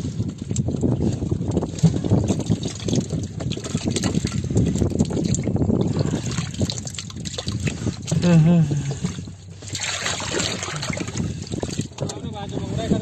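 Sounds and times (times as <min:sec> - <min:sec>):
water splashing in a tub: 0:00.0 - 0:12.1.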